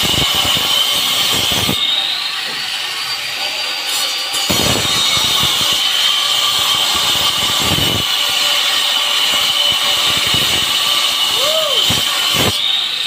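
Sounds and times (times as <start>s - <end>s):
angle grinder cutting brick: 0.0s - 13.0s.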